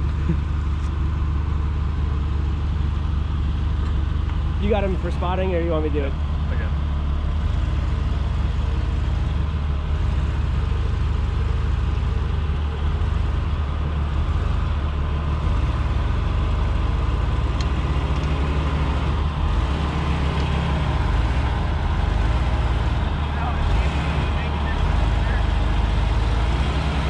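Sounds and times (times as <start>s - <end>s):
car engine running near idle: 0.0s - 27.0s.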